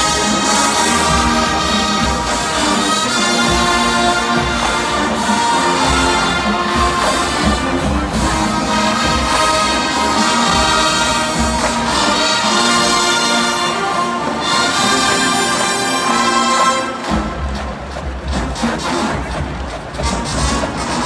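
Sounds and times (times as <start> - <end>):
marching band brass music: 0.0 - 21.0.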